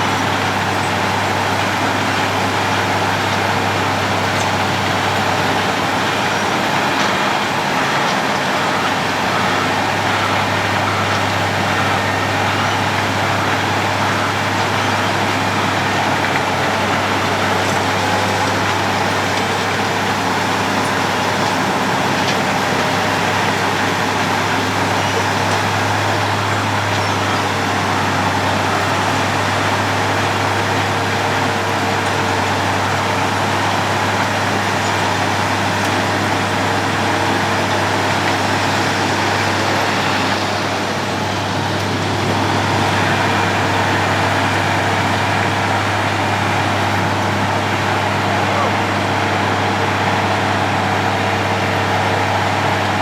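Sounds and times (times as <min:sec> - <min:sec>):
road planer grinding: 0:00.0 - 0:53.0.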